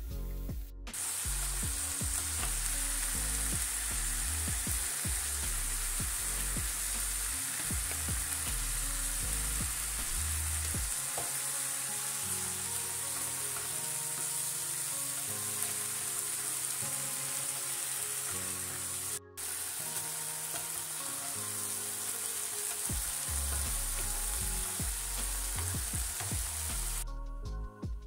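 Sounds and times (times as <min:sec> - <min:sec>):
background music: 0:00.0 - 0:28.0
vegetables sizzling in a frying pan: 0:01.0 - 0:27.0.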